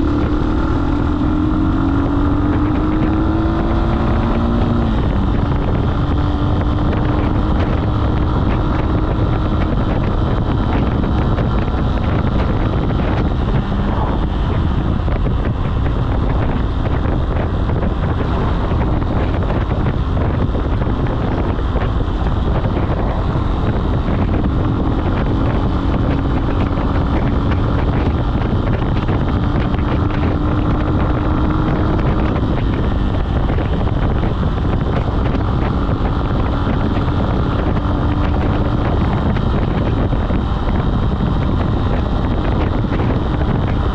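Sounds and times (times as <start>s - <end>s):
motorcycle engine cruising: 0.0s - 43.9s
wind rushing over microphone: 0.0s - 43.9s.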